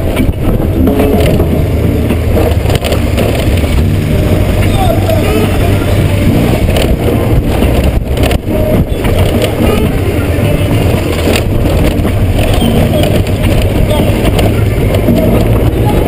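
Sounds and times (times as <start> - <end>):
motorcycle engine running: 0.0 - 16.0
tyres on gravel: 0.0 - 16.0
wind noise: 0.0 - 16.0.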